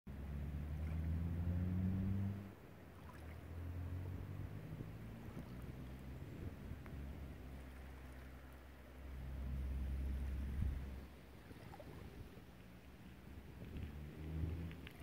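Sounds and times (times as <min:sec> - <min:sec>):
motorboat engine humming: 0:00.1 - 0:15.0
small waves lapping on shore: 0:00.1 - 0:15.0.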